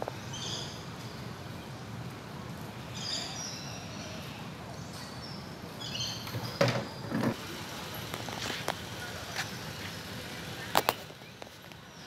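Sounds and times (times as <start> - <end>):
songbird chirps: 0.0 - 7.4, 8.0 - 12.0
outdoor background hum: 0.0 - 12.0.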